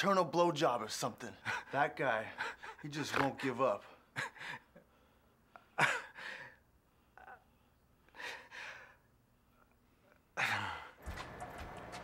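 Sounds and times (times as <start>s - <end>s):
low steady background hum: 0.0s - 12.0s.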